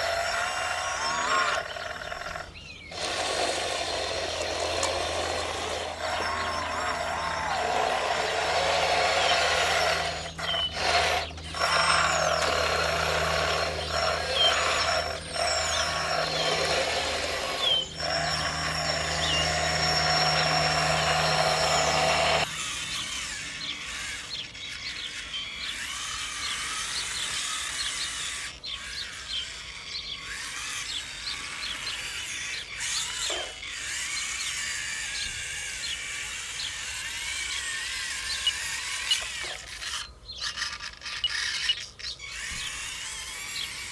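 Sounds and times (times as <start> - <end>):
small electric motor whine: 0.0 - 43.9.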